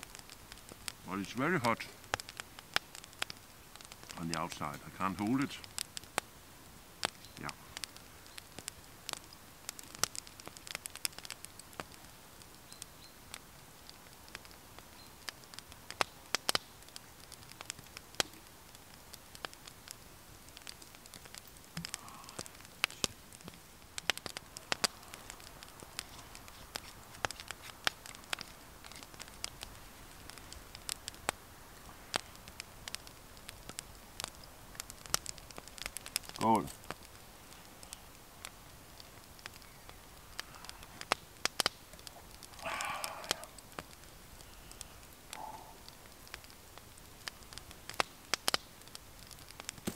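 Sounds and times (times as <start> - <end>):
fire pops and snaps: 0.0 - 49.9
wood fire crackling: 0.0 - 49.9.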